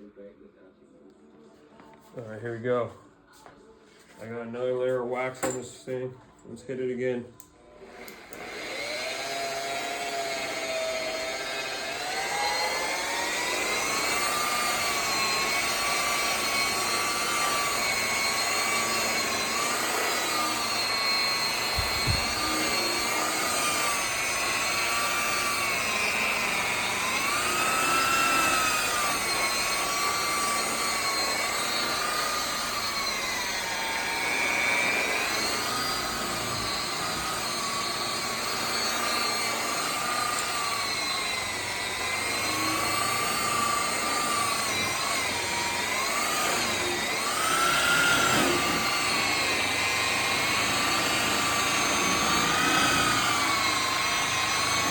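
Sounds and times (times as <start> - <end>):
electric polisher motor whine: 7.6 - 54.9.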